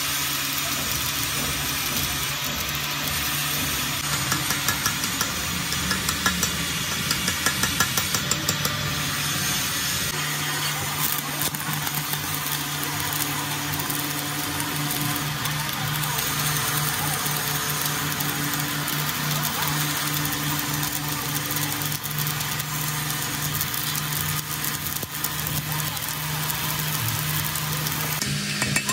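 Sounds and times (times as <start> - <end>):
welding arc crackling: 0.0 - 28.9.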